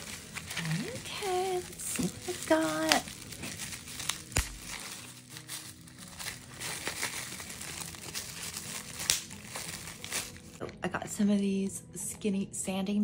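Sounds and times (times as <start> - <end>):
bubble wrap crinkling: 0.0 - 10.8.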